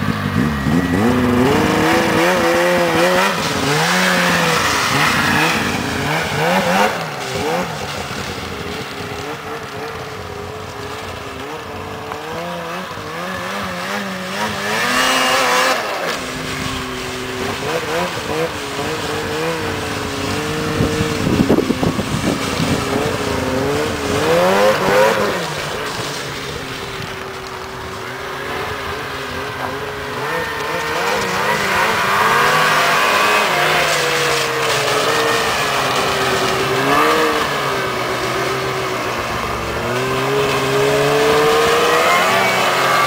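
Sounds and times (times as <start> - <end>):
snowmobile engines revving: 0.0 - 43.0.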